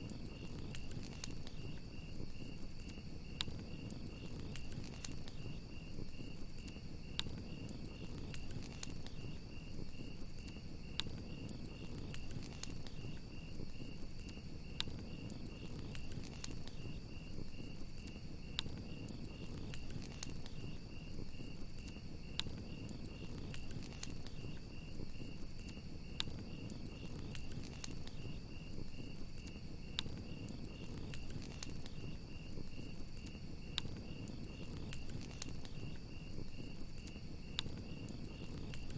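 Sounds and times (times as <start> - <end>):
campfire crackling: 0.0 - 38.9
crickets chirping: 0.0 - 38.9
low rumble of flames: 0.0 - 38.9
burning wood popping: 0.1 - 38.9.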